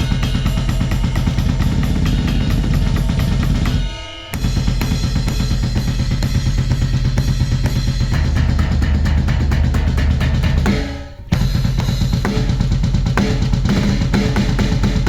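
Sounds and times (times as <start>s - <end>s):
fast electronic drumming: 0.0s - 15.0s.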